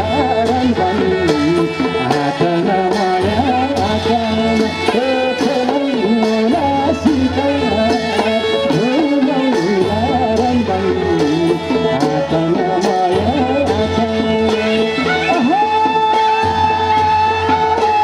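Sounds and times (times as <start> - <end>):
drum beats: 0.0 - 18.0.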